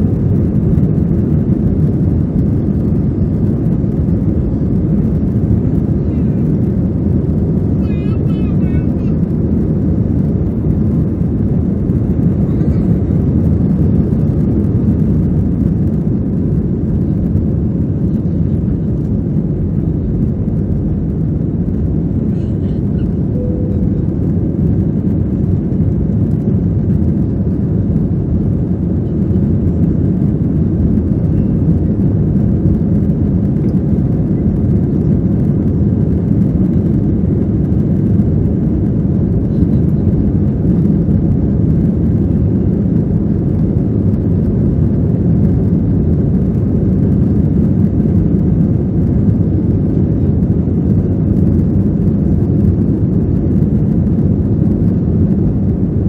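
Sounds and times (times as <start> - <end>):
air rushing over fuselage: 0.0 - 56.0
jet engines at climb power: 0.0 - 56.0.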